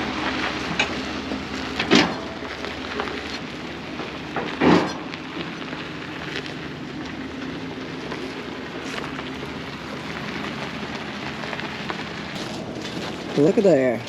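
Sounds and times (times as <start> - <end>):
crackling rustling noise: 0.0 - 14.0
vehicle engine running: 0.0 - 14.0.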